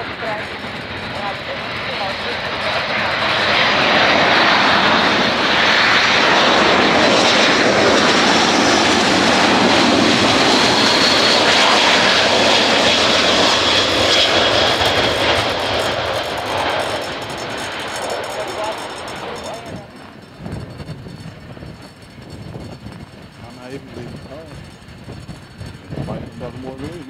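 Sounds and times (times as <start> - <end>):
jet roar: 0.0 - 27.0.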